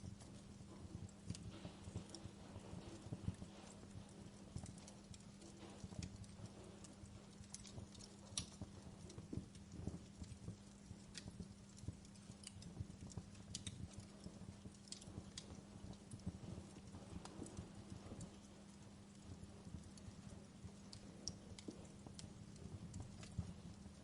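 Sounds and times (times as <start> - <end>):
faint steady hum: 0.0 - 24.0
wood fire crackling: 0.0 - 24.0.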